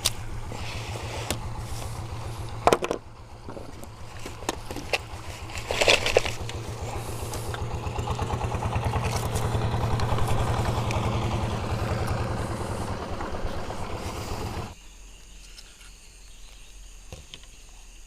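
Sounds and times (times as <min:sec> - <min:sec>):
small engine thumping: 0:00.0 - 0:14.8.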